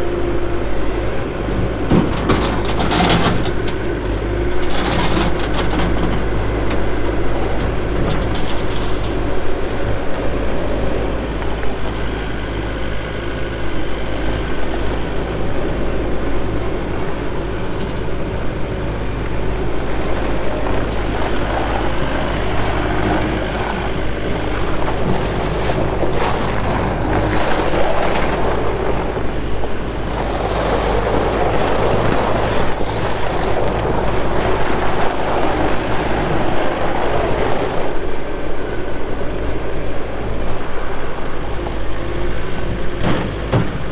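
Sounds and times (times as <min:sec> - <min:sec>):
loader diesel engine running: 0:00.0 - 0:43.9.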